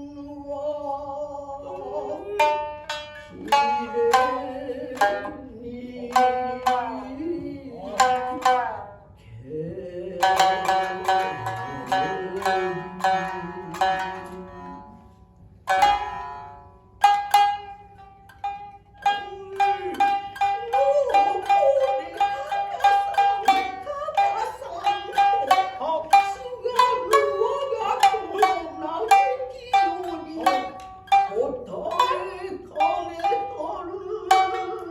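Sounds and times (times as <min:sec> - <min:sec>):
wavering chanted vocal: 0:00.0 - 0:34.9
high-tuned second shamisen: 0:01.6 - 0:09.1, 0:10.2 - 0:34.9
shamisen plucked notes: 0:01.7 - 0:09.0, 0:10.2 - 0:34.9.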